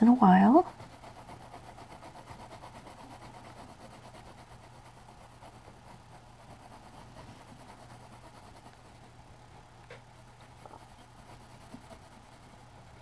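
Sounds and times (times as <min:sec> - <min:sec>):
pencil scratching on paper: 0:00.2 - 0:09.2, 0:10.2 - 0:13.0.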